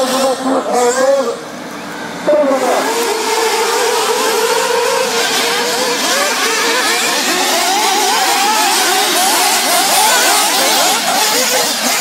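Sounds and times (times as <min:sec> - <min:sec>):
model buggy engines high-pitched whine: 0:00.0 - 0:12.0.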